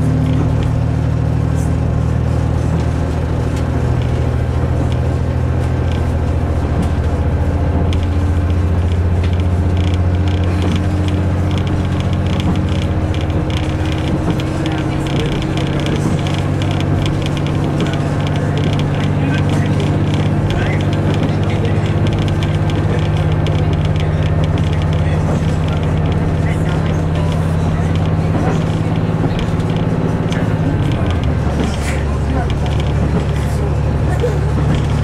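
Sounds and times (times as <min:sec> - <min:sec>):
carriage rattling and creaking: 0:00.0 - 0:35.0
diesel engine drone: 0:00.0 - 0:35.0.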